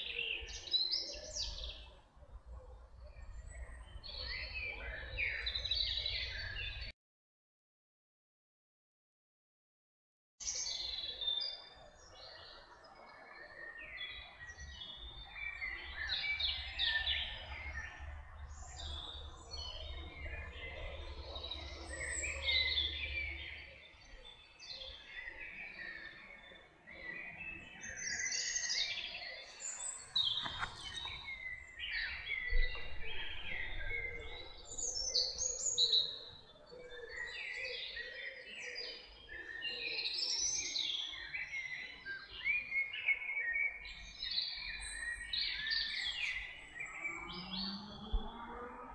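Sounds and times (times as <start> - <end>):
songbirds singing and calling: 0.0 - 6.9, 10.4 - 48.9.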